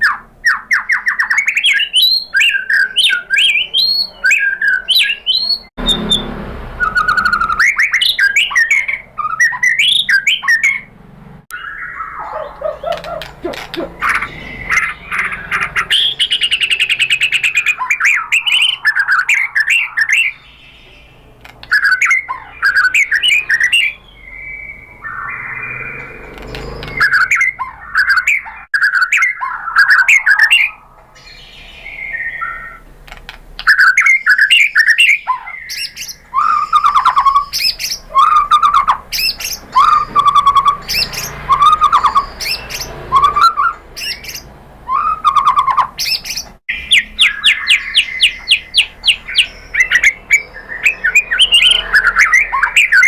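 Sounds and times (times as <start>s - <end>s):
songbird singing trills and whistles: 0.0s - 10.9s, 11.5s - 53.0s.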